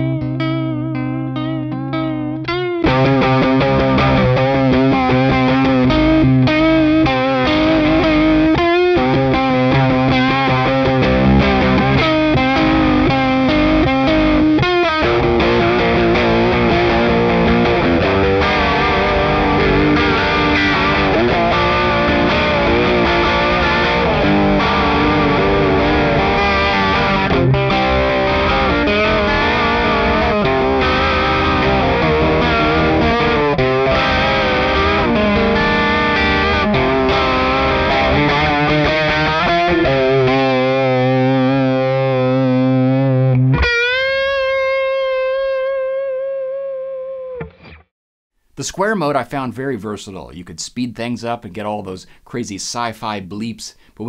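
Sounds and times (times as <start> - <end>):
electric guitar with wobbling pitch: 0.0 - 47.9.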